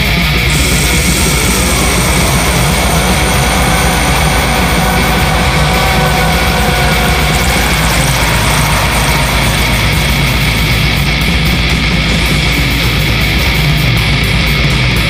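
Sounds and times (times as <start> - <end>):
distorted death metal guitars: 0.0 - 15.0.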